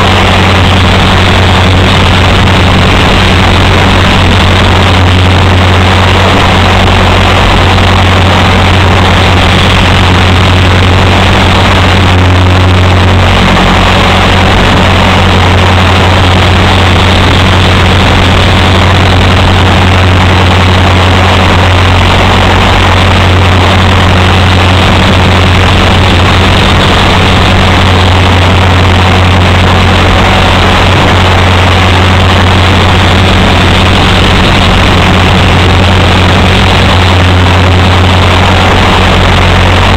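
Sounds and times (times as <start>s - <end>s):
rc helicopter drone: 0.0s - 39.9s.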